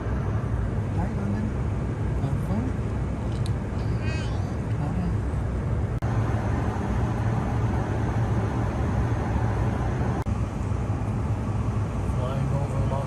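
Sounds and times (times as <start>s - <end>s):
airliner cabin roar: 0.0s - 13.0s.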